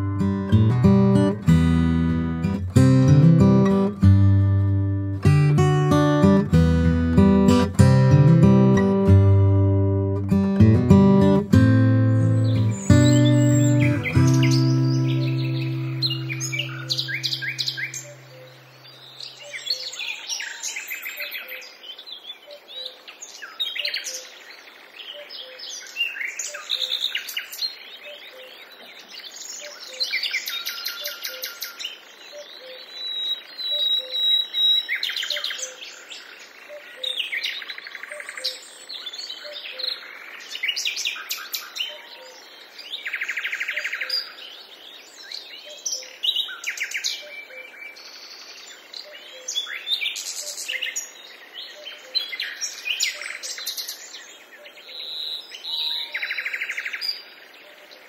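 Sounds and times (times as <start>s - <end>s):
forest birds calling: 0.0s - 58.0s.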